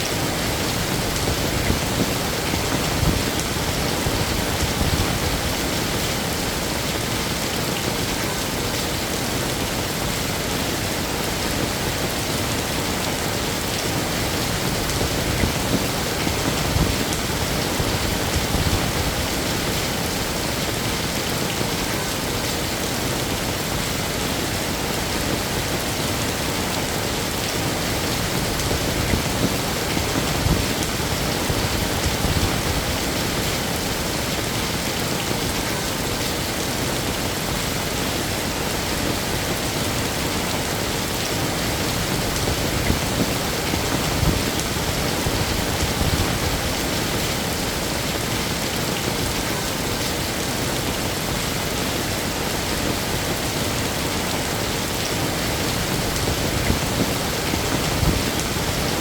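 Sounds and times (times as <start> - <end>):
heavy rain falling: 0.0 - 59.0
rain spatters: 0.0 - 59.0.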